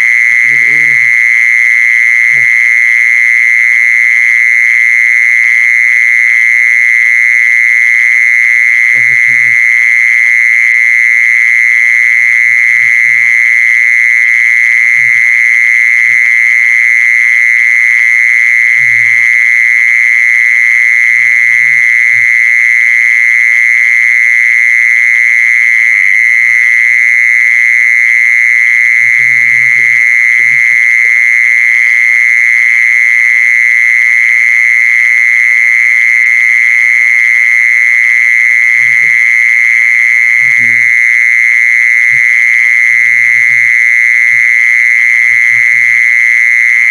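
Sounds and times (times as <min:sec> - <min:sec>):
cricket high trill: 0:00.0 - 0:46.9.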